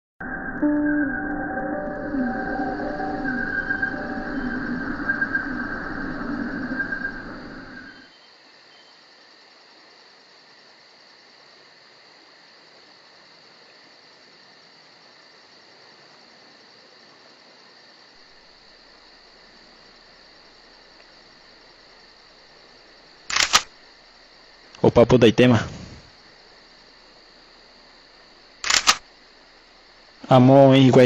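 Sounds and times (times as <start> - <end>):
insects chirring: 0.2 - 31.0
low hiss: 2.0 - 31.0.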